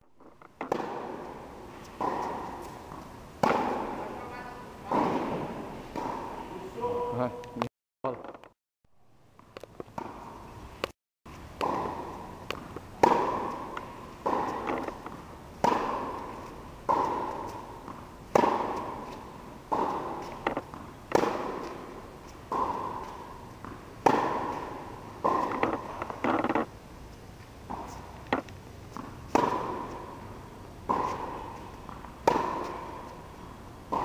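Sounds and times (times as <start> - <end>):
tennis ball bouncing on court: 0.2 - 6.4, 9.4 - 10.9, 11.5 - 26.7, 27.6 - 34.0
tennis ball struck by rackets: 0.3 - 6.4, 9.4 - 10.9, 11.5 - 26.7, 27.6 - 34.0.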